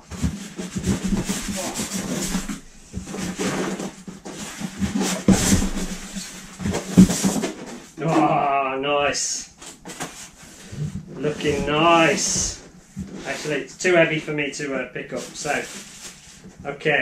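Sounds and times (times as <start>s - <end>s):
polystyrene scraping against cardboard: 0.0s - 8.4s, 9.6s - 16.6s.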